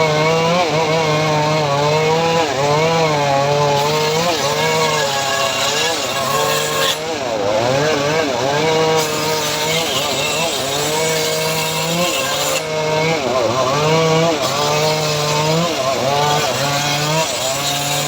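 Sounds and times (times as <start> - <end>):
power saw cutting wood: 0.0 - 18.0.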